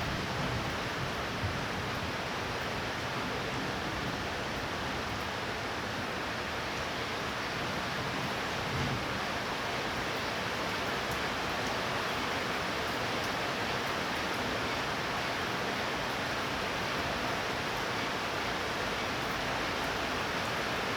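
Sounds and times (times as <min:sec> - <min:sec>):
heavy rain pouring: 0:00.0 - 0:20.9.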